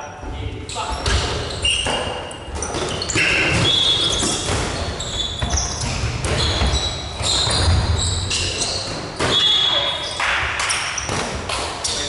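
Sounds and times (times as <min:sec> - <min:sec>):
sneakers squeaking on floor: 0:00.6 - 0:12.0
balls bouncing on gym floor: 0:00.9 - 0:12.0.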